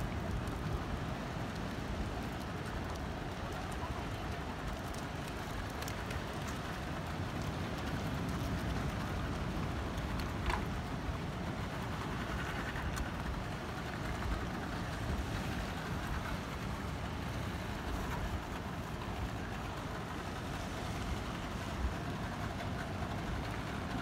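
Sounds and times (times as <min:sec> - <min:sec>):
sea water washing against rocks: 0:00.0 - 0:24.0.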